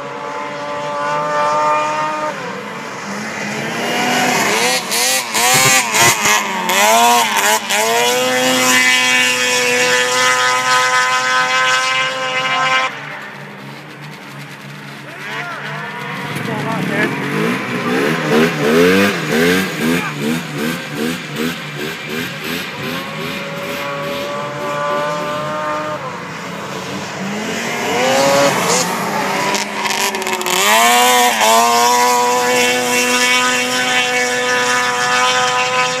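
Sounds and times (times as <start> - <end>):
snowmobile engines whining: 0.0 - 36.0.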